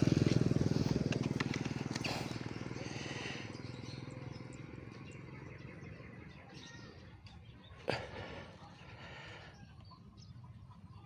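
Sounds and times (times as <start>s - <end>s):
motorcycle engine: 0.0s - 11.0s
faint bird chirps: 2.0s - 11.0s.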